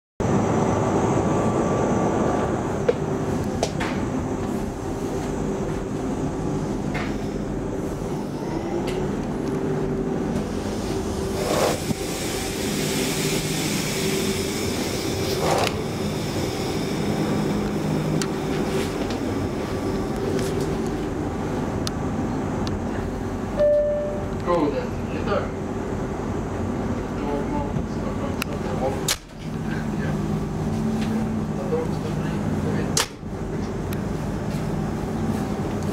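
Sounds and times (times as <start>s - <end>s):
train interior rumble: 0.2s - 35.9s.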